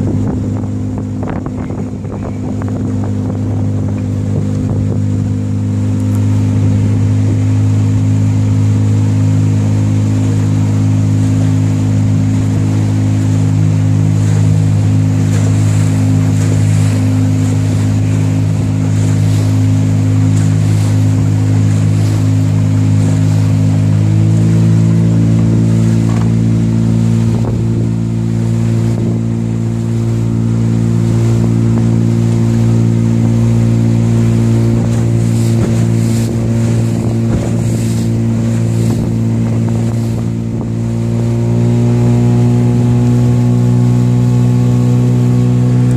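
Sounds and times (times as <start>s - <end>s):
small boat engine running: 0.0s - 45.9s.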